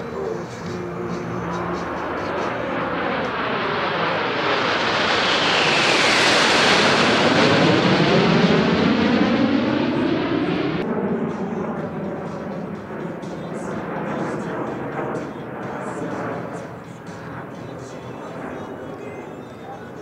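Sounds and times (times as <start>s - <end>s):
jet planes flying past overhead: 0.0s - 20.0s.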